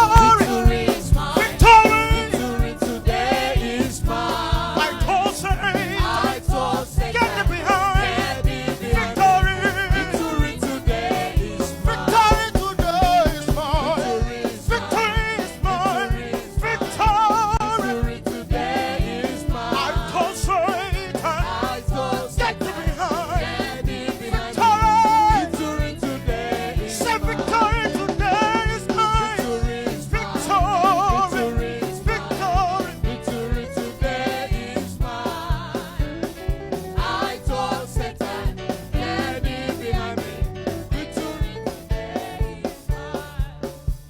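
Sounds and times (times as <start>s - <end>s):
congregation singing: 0.0s - 44.0s
live band playing: 0.0s - 44.0s
steady drum beat: 0.0s - 44.0s.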